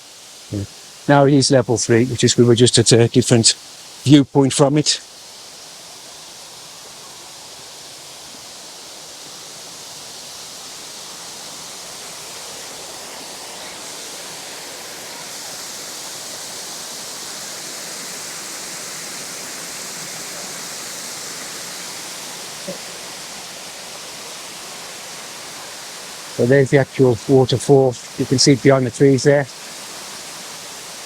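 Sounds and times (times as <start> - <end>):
waterfall rushing over rock: 0.0 - 31.0.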